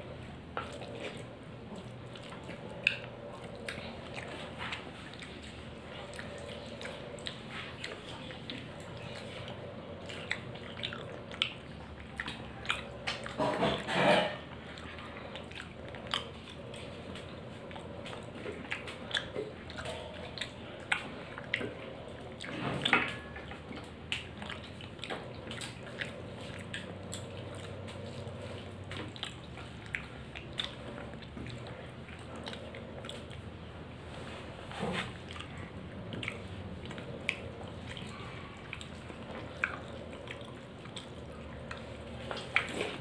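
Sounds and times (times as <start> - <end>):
person chewing and lip smacking: 0.0 - 43.0.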